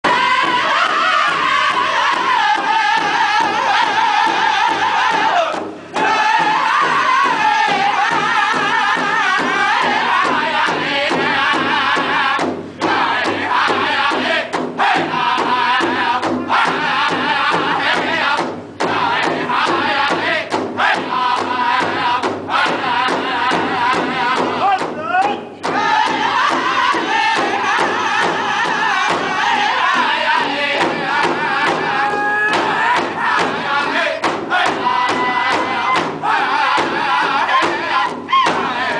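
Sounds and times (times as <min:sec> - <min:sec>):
large hide drum beating: 0:00.0 - 0:38.9
men singing together: 0:00.0 - 0:38.9.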